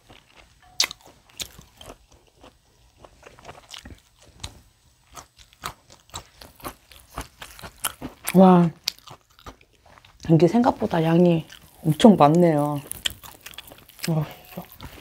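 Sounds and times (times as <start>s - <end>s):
chewing and biting steak: 0.0s - 10.3s, 11.4s - 15.0s.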